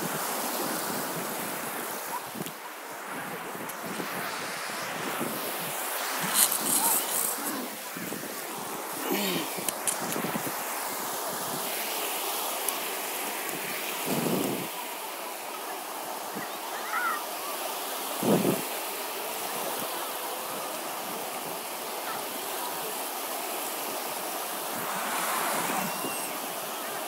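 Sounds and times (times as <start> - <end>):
surf washing onto beach: 0.0 - 27.0.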